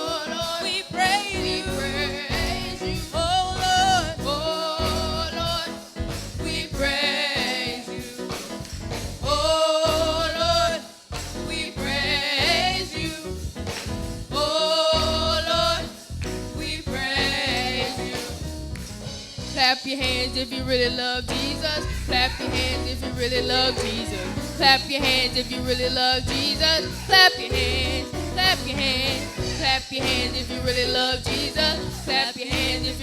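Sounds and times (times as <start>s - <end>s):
band accompaniment: 0.0s - 33.0s.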